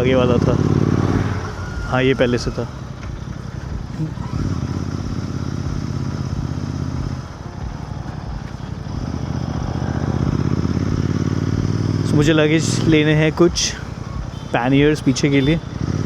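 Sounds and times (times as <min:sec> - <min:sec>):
motorcycle engine riding: 0:00.0 - 0:16.0.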